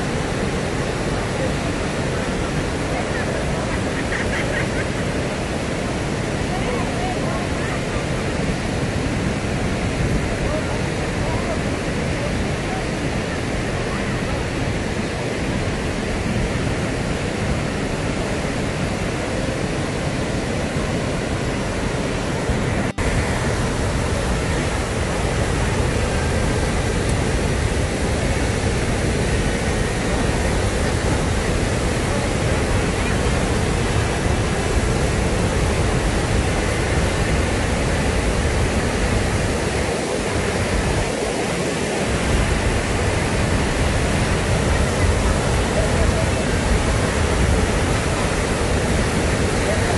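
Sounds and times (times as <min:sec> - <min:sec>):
floodwater rushing over waterfall: 0:00.0 - 0:49.9.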